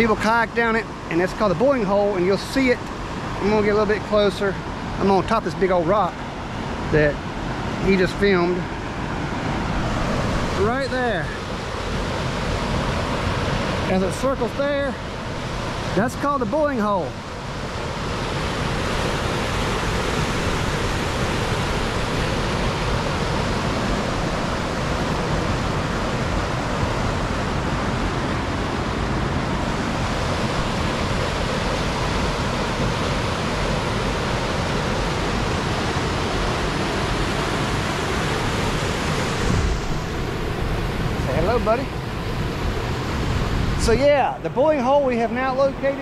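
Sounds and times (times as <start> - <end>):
whitewater rapid rushing: 0.0 - 46.0.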